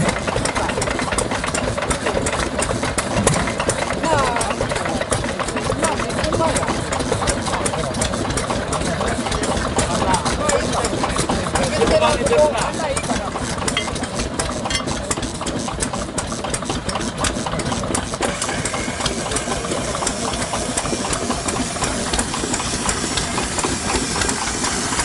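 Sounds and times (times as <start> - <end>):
small engines knocking steadily: 0.0 - 25.0.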